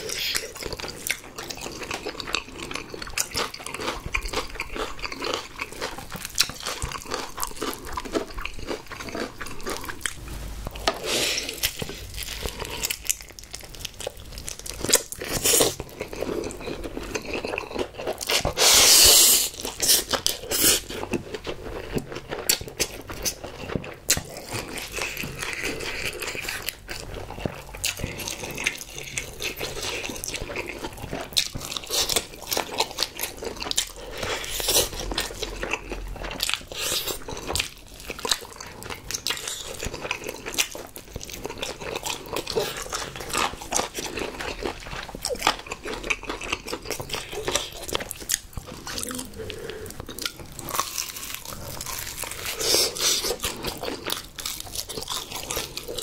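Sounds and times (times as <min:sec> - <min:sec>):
crunchy chewing and mouth sounds: 0:00.0 - 0:56.0.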